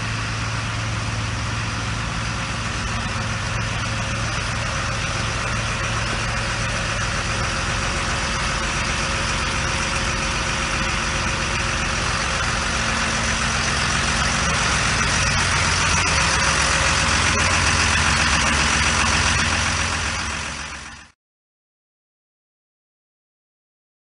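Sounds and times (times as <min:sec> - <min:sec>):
diesel engine idling: 0:00.0 - 0:21.2.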